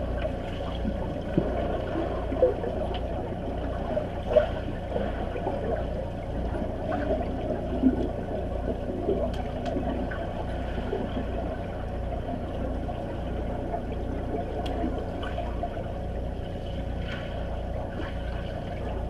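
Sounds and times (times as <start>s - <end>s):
swimmers churning water underwater: 0.0s - 19.0s.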